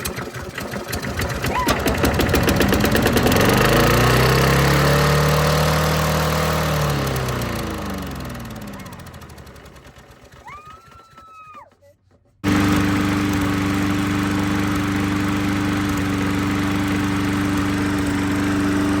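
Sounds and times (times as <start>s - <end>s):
lawn mower engine: 0.0s - 11.2s, 12.4s - 19.0s.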